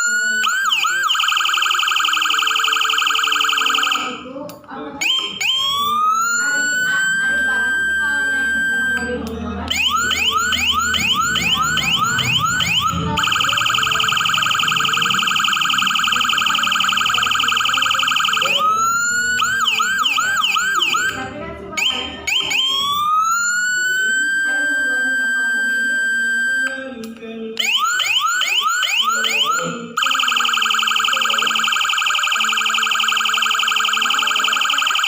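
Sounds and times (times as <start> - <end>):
electronic siren cycling patterns: 0.0 - 26.9, 27.6 - 35.0.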